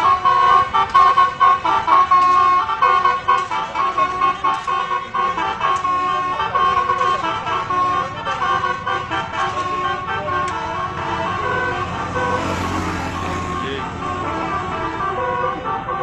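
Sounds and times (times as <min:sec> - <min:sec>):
multi-tone bus air horn tune: 0:00.0 - 0:16.0.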